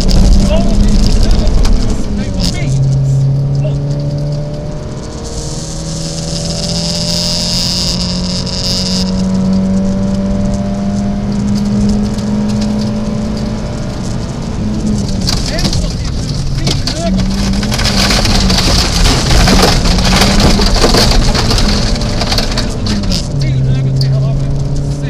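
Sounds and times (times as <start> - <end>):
car engine under full throttle: 0.0 - 25.0.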